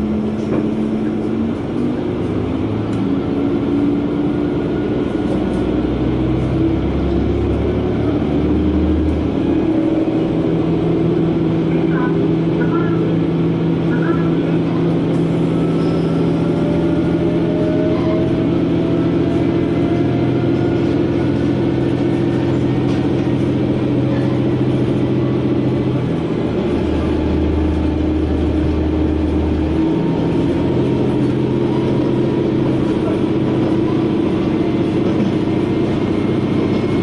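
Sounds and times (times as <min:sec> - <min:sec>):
railcar engine drone: 0:00.0 - 0:37.0
wheel and rail noise: 0:00.0 - 0:37.0.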